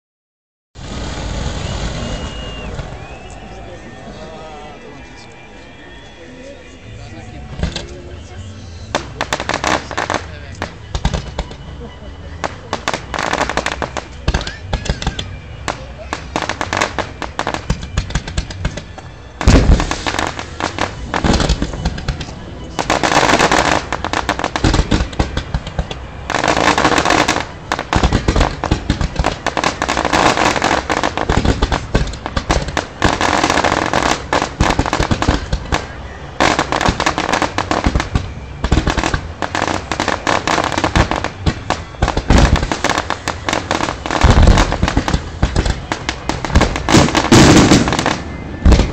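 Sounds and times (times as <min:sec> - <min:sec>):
fireworks bangs and crackling: 0:00.8 - 0:06.1, 0:06.7 - 0:48.9
music playing: 0:00.8 - 0:48.9.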